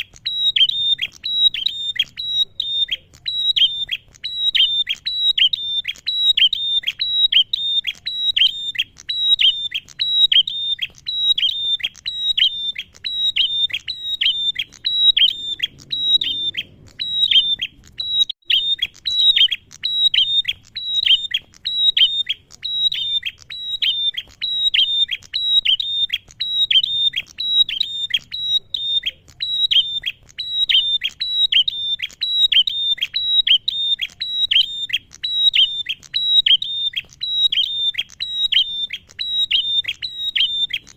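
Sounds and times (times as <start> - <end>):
bird calling down-slurred notes: 0.0 - 40.9.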